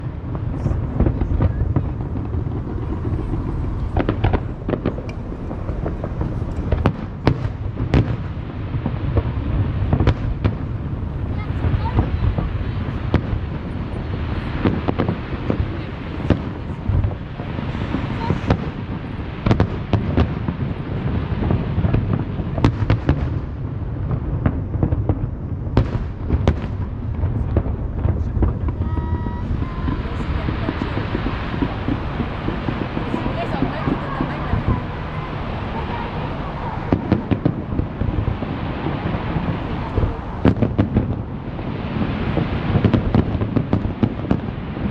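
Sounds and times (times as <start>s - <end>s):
fireworks rumbling and cracking: 0.0s - 44.9s.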